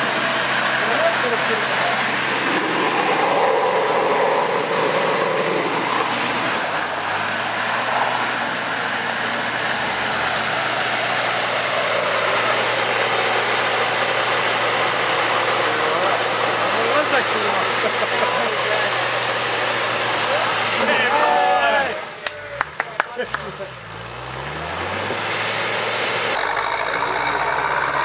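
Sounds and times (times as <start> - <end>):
vehicle engine running under load: 0.0 - 28.0.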